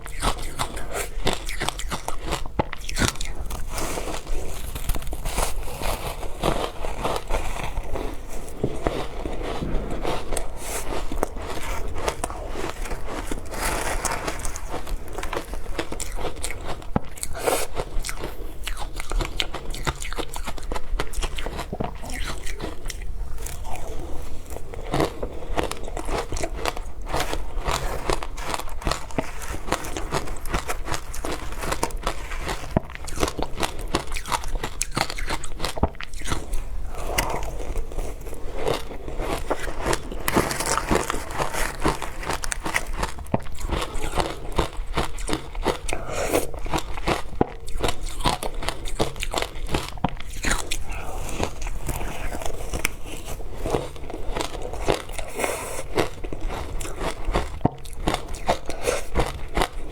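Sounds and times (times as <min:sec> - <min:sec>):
crunching ice: 0:00.1 - 0:59.9.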